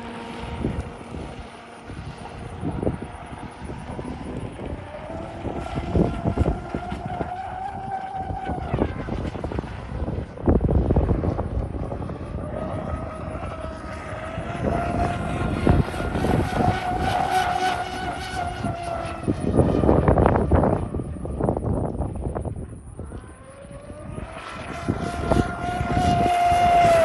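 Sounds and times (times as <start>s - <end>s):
electric motors whining: 0.0s - 27.0s
wind buffeting microphone: 0.0s - 27.0s.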